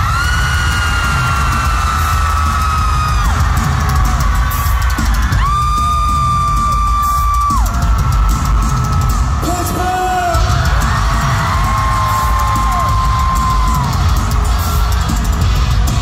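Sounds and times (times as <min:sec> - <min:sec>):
crowd cheering: 0:00.0 - 0:16.0
live rock music: 0:00.0 - 0:16.0.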